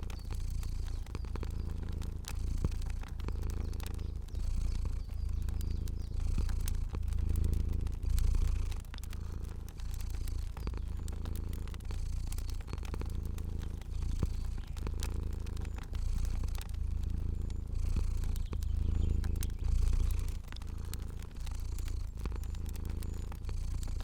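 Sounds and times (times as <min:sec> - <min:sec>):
cat purring: 0:00.0 - 0:24.0
fire crackling: 0:00.0 - 0:24.0.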